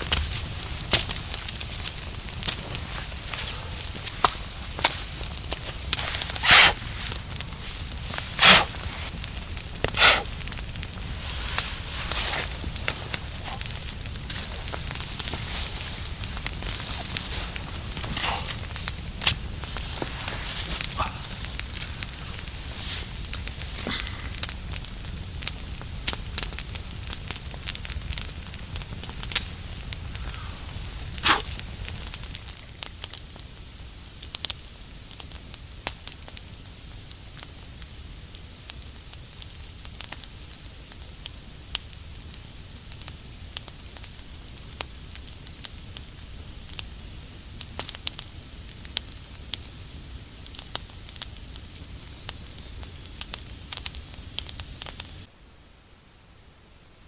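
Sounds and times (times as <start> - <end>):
campfire crackling and popping: 0.0 - 55.3.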